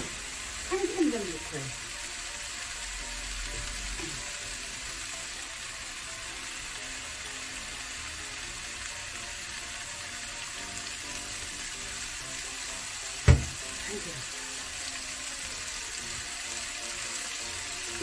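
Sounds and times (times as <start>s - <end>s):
vegetables sizzling in frying pan: 0.0s - 18.0s.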